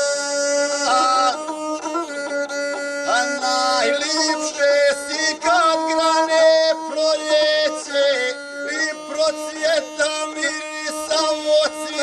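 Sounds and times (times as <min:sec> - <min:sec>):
bowed single-string fiddle: 0:00.0 - 0:12.0
man singing: 0:00.0 - 0:12.0.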